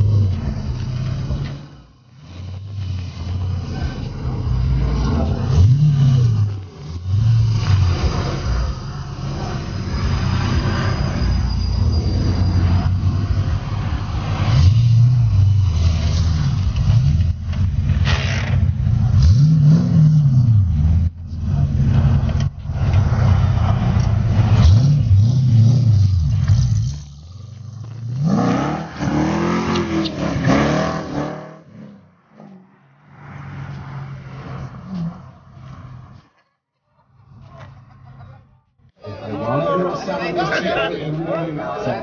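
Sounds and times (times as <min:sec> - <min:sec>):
car engine revving: 0:00.0 - 0:36.3.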